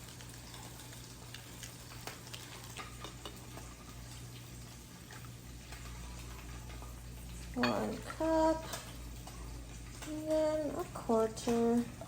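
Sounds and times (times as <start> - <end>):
oil popping and crackling: 0.0 - 12.0
tofu sizzling in oil: 0.0 - 12.0.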